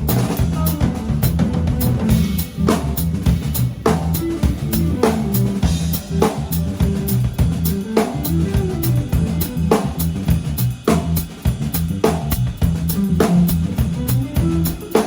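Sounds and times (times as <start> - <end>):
bass line: 0.0 - 15.0
small band playing a groove: 0.0 - 15.0.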